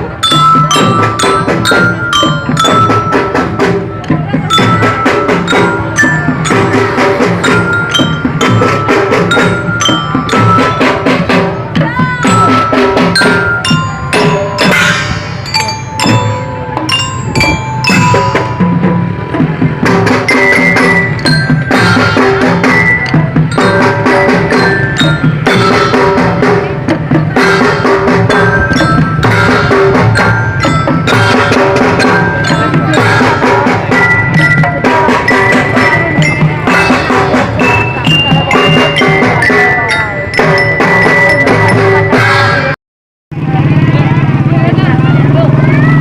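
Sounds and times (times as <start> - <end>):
bell-like mallet percussion: 0.0 - 42.8
drums: 0.0 - 46.0.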